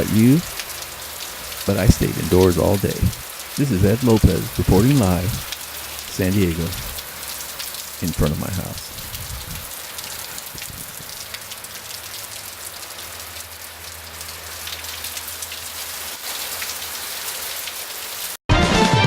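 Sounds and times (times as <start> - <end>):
rain on hard surfaces: 0.0 - 18.4.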